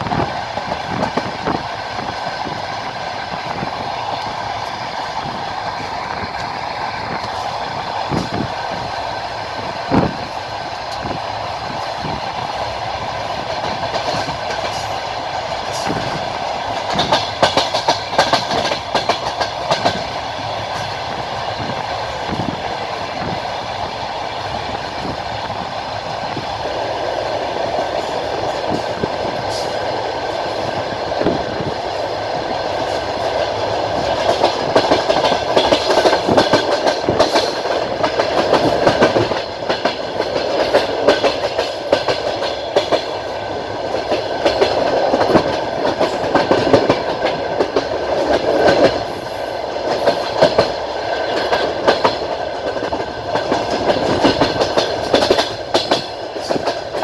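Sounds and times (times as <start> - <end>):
train rolling on rails: 0.0 - 57.0
wheels clacking over rail joints: 0.0 - 57.0.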